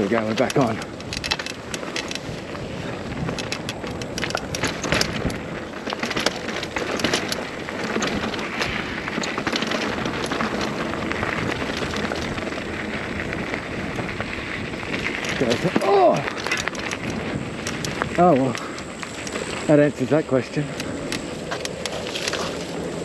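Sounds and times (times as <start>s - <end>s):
bike rattling clicks and knocks: 0.0s - 23.0s
bike tyres crunching on gravel: 0.0s - 23.0s.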